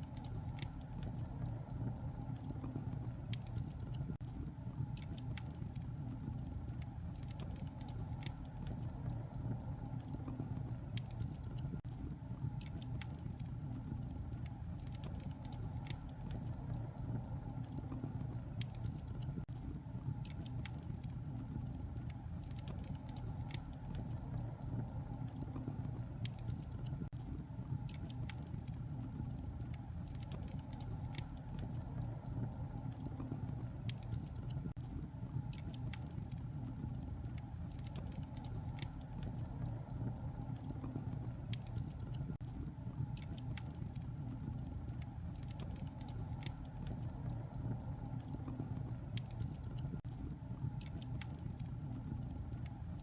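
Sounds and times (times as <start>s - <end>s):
fire crackling and popping: 0.0s - 53.0s
fire flames rumbling: 0.0s - 53.0s.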